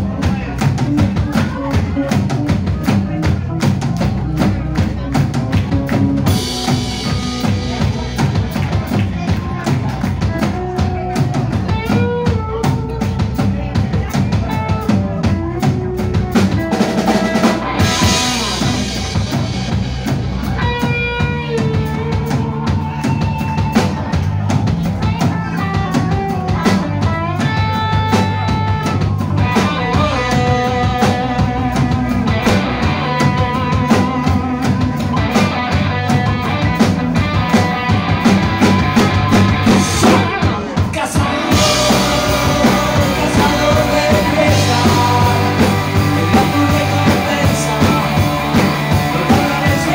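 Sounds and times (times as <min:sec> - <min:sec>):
drum kit beat: 0:00.0 - 0:49.9
rock band playing live: 0:00.0 - 0:49.9.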